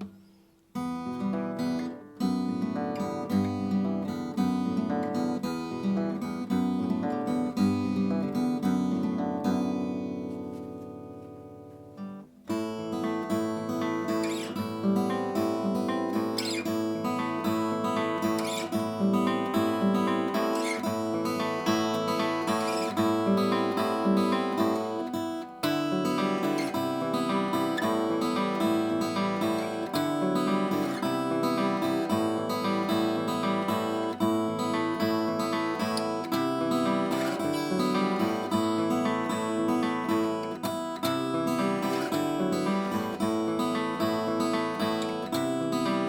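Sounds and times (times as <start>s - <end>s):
acoustic guitar picked and strummed: 0.0s - 46.0s.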